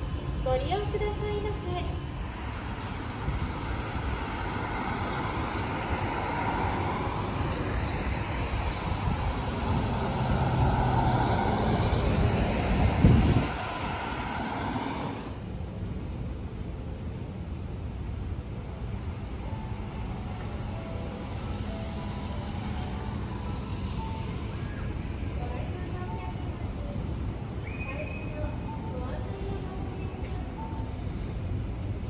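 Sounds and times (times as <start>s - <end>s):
road traffic passing: 0.0s - 32.0s
vehicle passing with low rumble: 1.8s - 29.3s.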